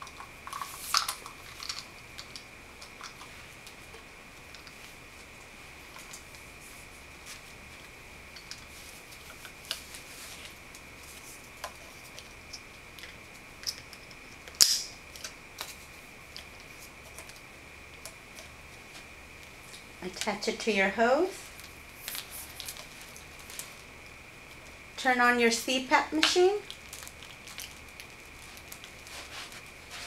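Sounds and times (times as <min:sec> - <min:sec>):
faint high-pitched whine: 0:00.0 - 0:30.0.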